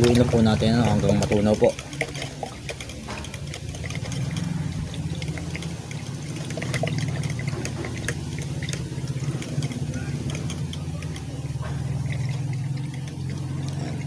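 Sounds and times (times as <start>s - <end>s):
steady low hum: 0.0s - 14.0s
water sloshing and trickling: 0.0s - 14.0s.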